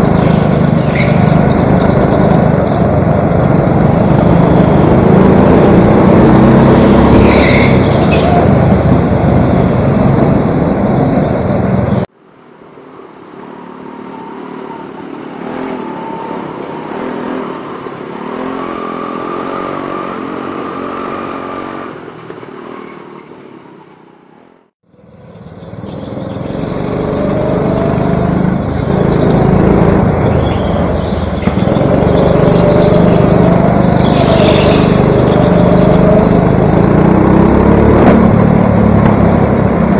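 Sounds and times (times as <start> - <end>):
go-kart engine running: 0.0 - 12.1, 12.7 - 23.3, 25.0 - 39.9.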